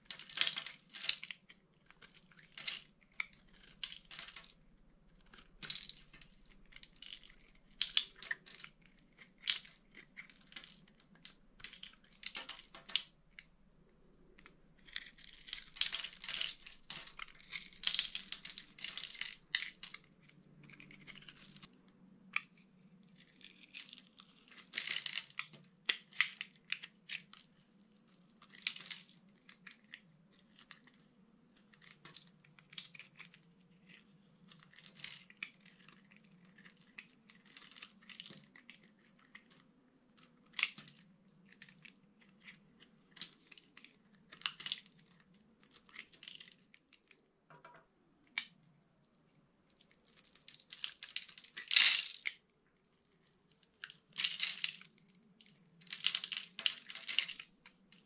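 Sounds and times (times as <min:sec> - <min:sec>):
soap cubes crunching and crackling: 0:00.0 - 0:47.2, 0:48.2 - 0:58.0.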